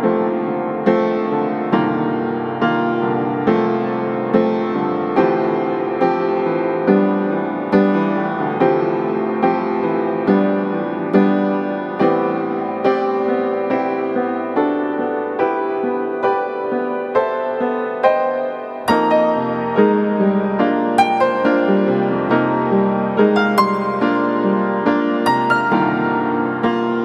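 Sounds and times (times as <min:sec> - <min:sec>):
gentle piano piece: 0:00.0 - 0:27.0.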